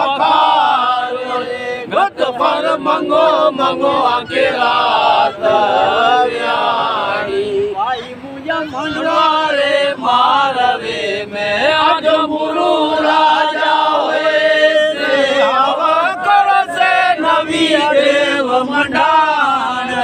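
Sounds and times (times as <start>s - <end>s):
group singing a hymn: 0.0s - 20.0s.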